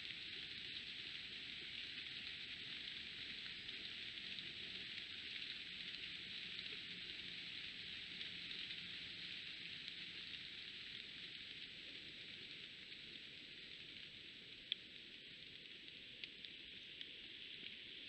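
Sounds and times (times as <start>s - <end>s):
rain falling in woodland: 0.0s - 18.0s.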